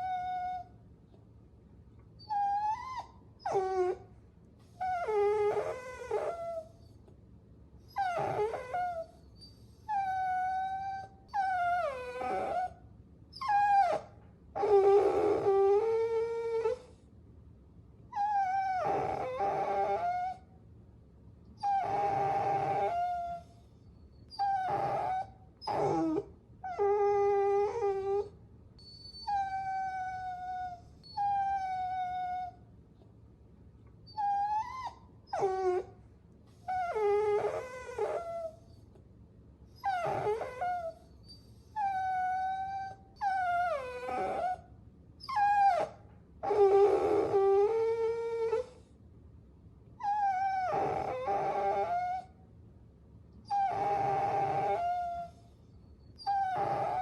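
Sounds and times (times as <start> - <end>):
puppy whining: 0.0 - 0.8, 2.0 - 7.2, 7.8 - 17.0, 18.1 - 20.5, 21.6 - 33.1, 33.9 - 39.0, 39.7 - 49.0, 50.0 - 52.4, 53.4 - 57.0.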